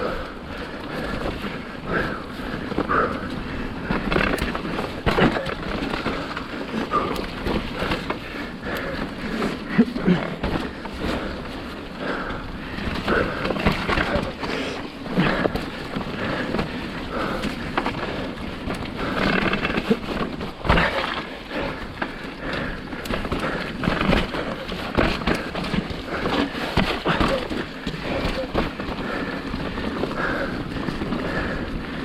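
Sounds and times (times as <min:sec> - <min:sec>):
bike knocking and rattling: 0:00.0 - 0:32.0
bike tyres on dirt and rock: 0:00.0 - 0:32.0.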